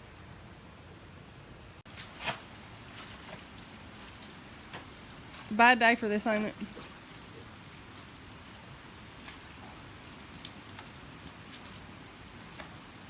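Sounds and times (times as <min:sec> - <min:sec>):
rain falling steadily: 0:00.0 - 0:13.0
raindrops ticking: 0:01.9 - 0:13.0.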